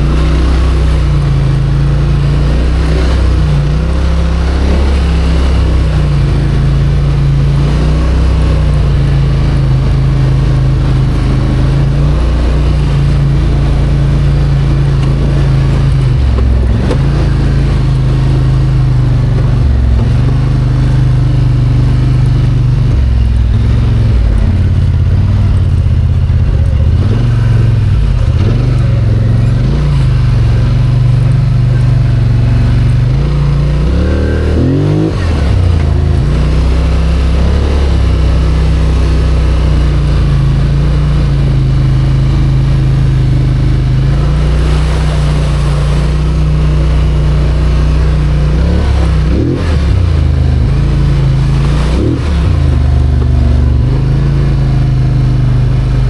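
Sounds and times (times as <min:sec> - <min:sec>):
vehicle engine under load: 0:00.0 - 0:56.0.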